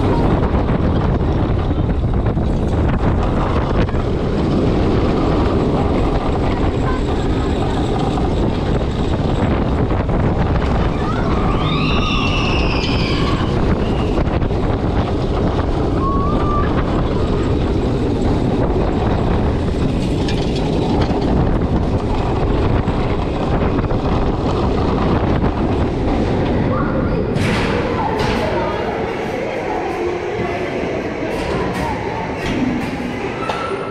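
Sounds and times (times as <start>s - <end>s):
roller coaster wheels rumbling: 0.0s - 33.9s
wind buffeting microphone: 0.0s - 33.9s.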